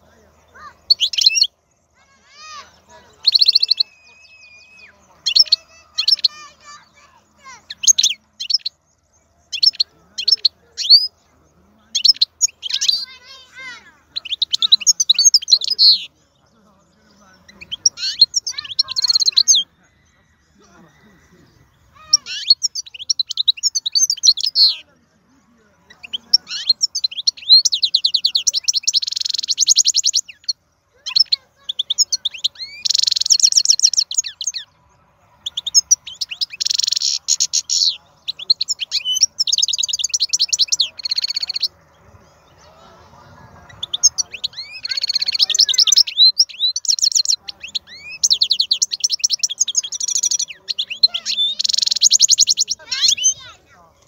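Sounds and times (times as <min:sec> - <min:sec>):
finch singing trills: 0:00.0 - 0:54.0.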